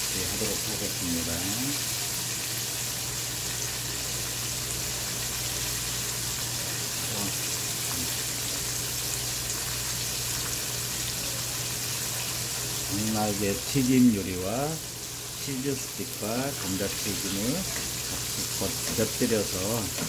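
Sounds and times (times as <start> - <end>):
oil bubbling and sizzling: 0.0 - 20.0.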